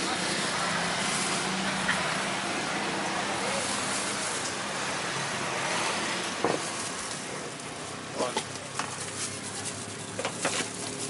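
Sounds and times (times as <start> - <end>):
hiss of passing traffic: 0.0 - 11.0.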